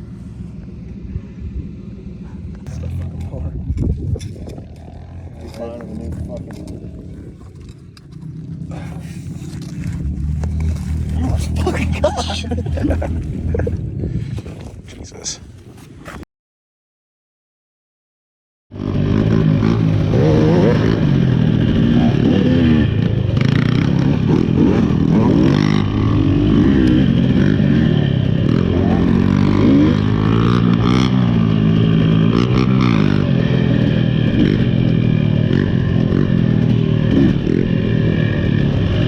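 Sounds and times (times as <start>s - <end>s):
dirt bike engine revving: 0.0s - 13.8s, 18.8s - 39.0s.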